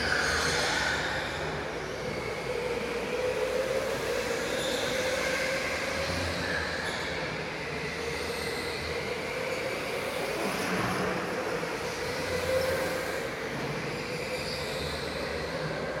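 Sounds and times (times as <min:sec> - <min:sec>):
electric kart motor whine: 0:00.0 - 0:16.0.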